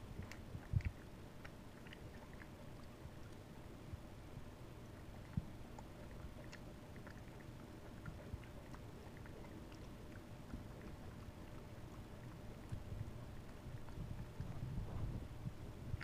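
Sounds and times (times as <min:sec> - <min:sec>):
low background rumble: 0:00.0 - 0:16.0
monkey chewing and lip smacking: 0:00.0 - 0:16.0.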